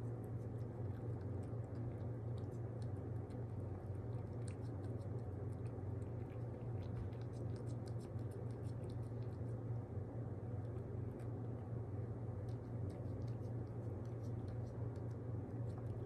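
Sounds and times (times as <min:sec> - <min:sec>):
pet chewing and licking: 0:00.0 - 0:16.0
steady low hum: 0:00.0 - 0:16.0.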